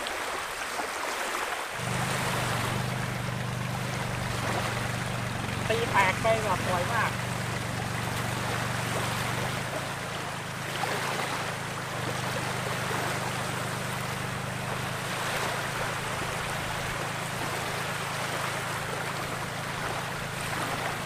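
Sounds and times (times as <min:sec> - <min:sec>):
waves washing against shore: 0:00.0 - 0:21.0
low hum: 0:01.8 - 0:21.0.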